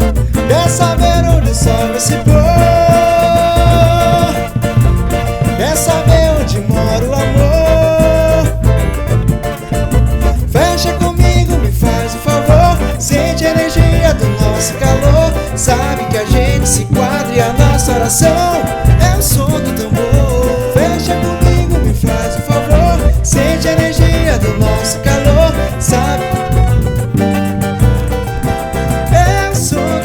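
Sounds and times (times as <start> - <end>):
upbeat pop song instrumental: 0.0 - 30.0.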